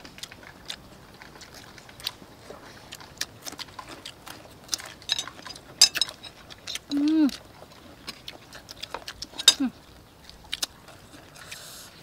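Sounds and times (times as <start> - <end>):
chewing and mouth clicks: 0.0 - 12.0.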